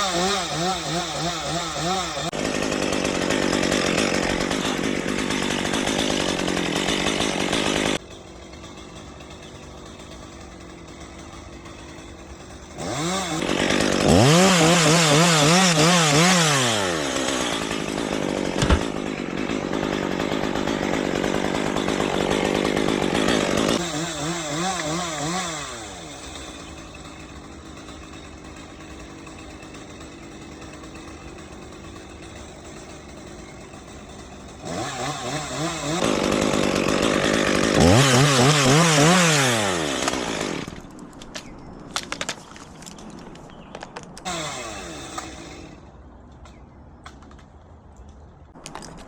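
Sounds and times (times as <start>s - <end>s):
chainsaw cutting wood: 0.0s - 43.0s, 43.6s - 46.0s.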